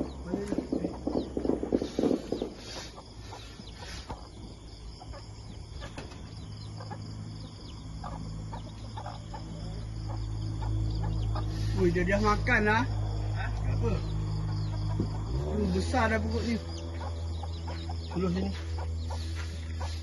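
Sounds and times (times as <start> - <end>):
chickens clucking in alarm: 0.0 - 12.4, 13.2 - 20.0.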